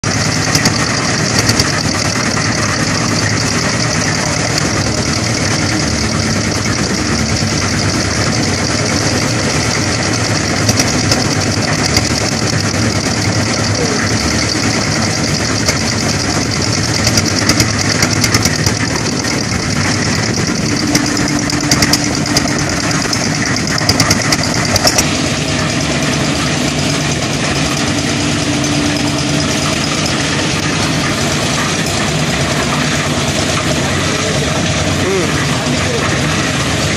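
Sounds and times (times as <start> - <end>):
concrete mixer engine running: 0.0 - 36.9
mixer clanks: 0.0 - 36.9.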